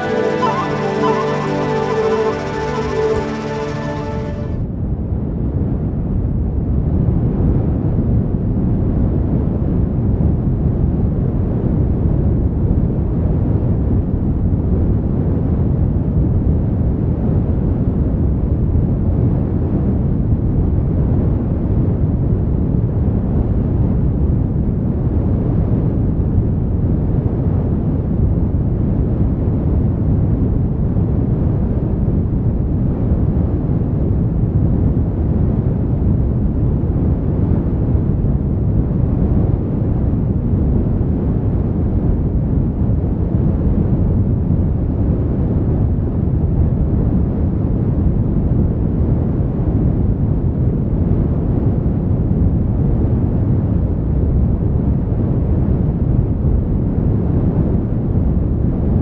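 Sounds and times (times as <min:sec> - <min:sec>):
wind on microphone: 0:05.8 - 0:59.0.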